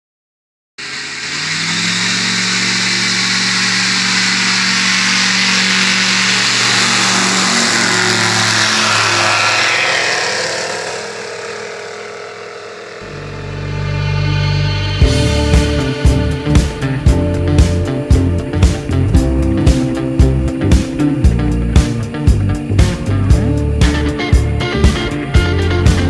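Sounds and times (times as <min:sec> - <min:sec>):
light aircraft engine and propeller: 0:00.8 - 0:26.0.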